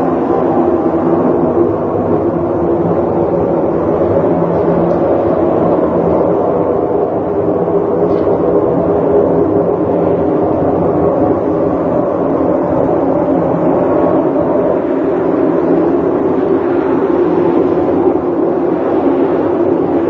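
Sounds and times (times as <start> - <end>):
low layered droning: 0.0 - 20.0.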